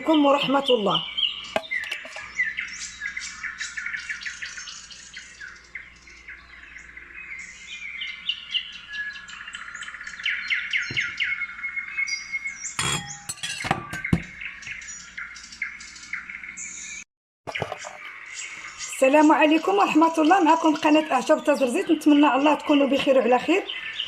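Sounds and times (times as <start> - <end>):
songbird chirping and trilling: 0.0 - 24.0.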